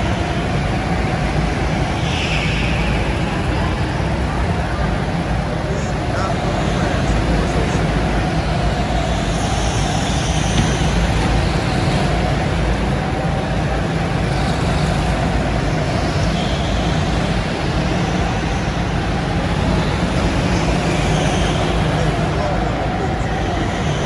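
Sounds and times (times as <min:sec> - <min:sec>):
go-kart track rumble and hiss: 0:00.0 - 0:24.0.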